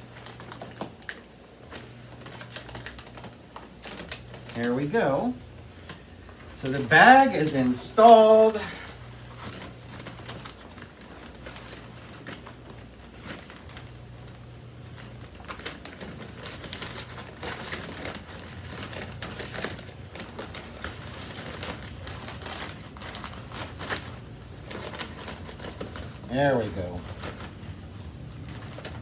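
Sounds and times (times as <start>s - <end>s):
paper bag crinkling: 0.0s - 29.0s.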